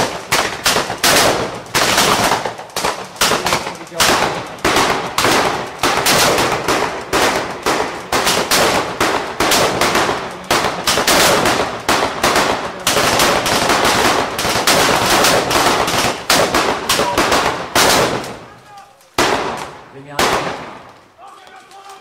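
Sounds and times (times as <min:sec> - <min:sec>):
rifle and machine gun fire: 0:00.0 - 0:22.0.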